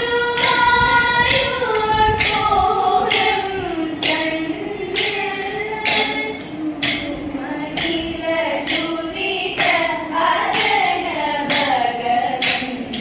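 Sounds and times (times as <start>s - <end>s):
person singing slow gliding melody: 0.0s - 13.0s
sharp rhythmic strikes: 0.0s - 13.0s.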